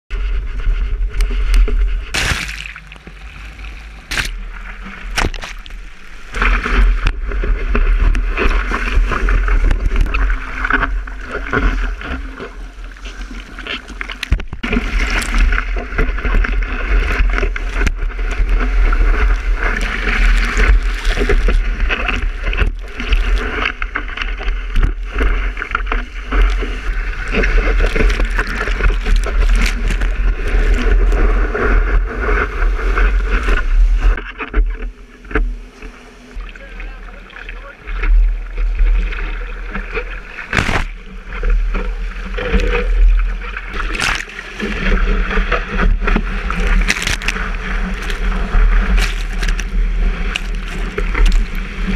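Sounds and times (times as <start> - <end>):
wind rumbling on microphone: 0.1 - 51.9
water rushing and splashing: 0.2 - 51.9.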